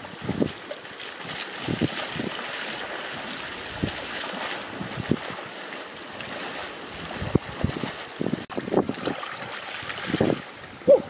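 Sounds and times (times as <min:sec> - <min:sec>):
legs wading through water: 0:00.0 - 0:11.0.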